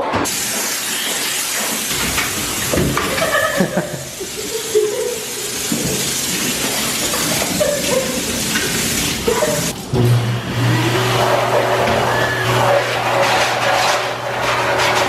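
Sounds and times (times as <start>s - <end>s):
hose water spraying: 0.3s - 9.9s, 10.5s - 15.0s.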